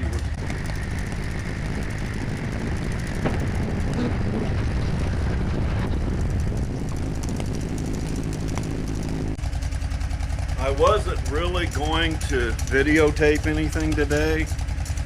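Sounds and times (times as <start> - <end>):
skid-steer loader engine running: 0.0 - 15.0.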